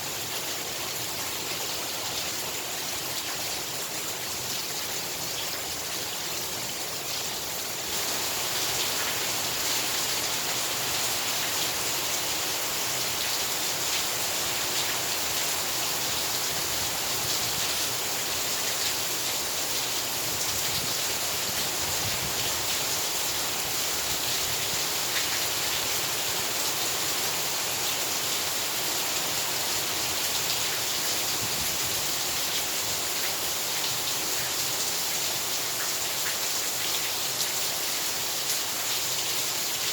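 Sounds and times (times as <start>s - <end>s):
heavy rain pouring: 0.2s - 39.9s.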